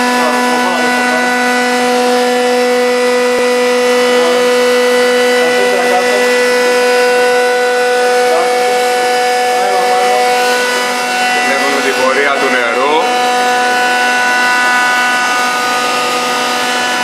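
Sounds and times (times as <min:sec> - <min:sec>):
machine hum with pump whine: 0:00.0 - 0:17.0.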